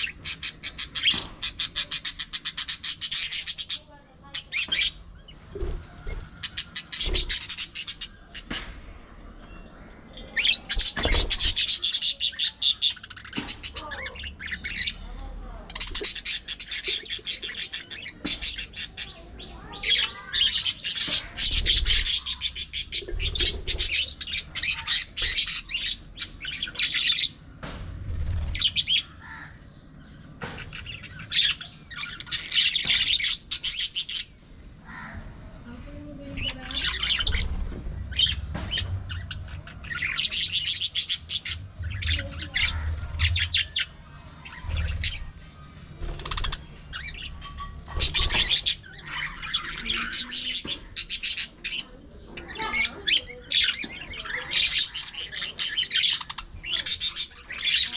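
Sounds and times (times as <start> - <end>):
budgerigars chattering: 0.0 - 8.7, 10.1 - 27.4, 28.3 - 35.2, 36.4 - 45.4, 46.0 - 57.9.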